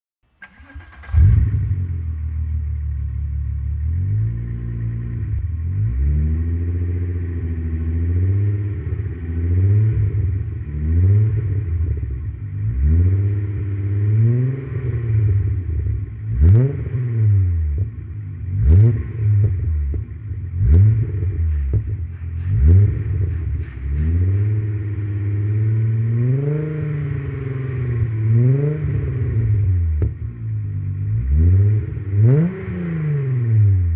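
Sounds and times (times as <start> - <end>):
car engine idling and revving: 0.3 - 33.9.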